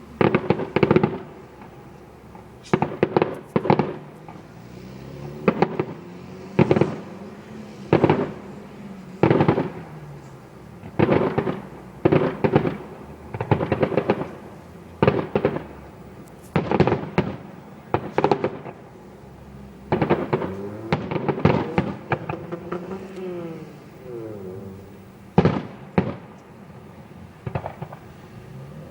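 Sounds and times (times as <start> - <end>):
fireworks bangs: 0.0 - 28.9
fireworks crackling: 0.0 - 28.9.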